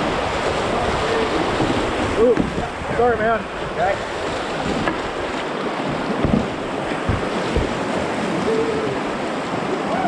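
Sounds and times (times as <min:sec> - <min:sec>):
rushing whitewater: 0:00.0 - 0:10.0
wind buffeting microphone: 0:00.0 - 0:10.0.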